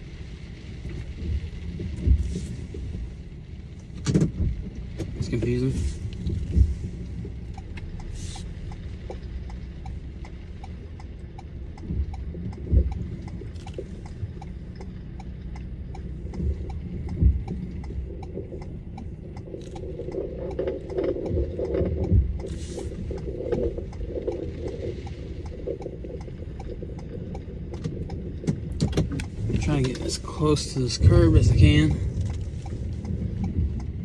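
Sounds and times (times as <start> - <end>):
engine and road rumble: 0.0 - 34.0
turn signal ticking: 0.0 - 34.0.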